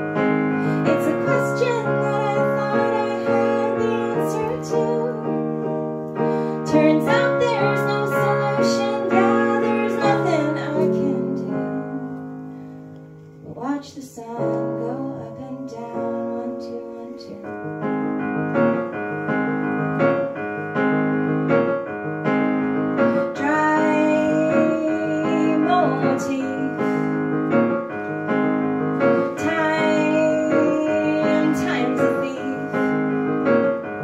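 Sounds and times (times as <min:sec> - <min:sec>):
digital piano chords: 0:00.0 - 0:34.0.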